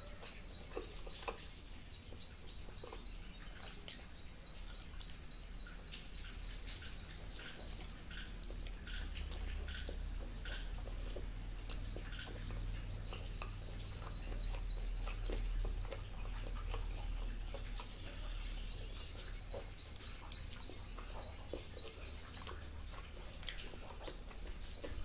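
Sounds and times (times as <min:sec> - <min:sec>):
person chewing with mouth smacks: 0:00.0 - 0:25.0.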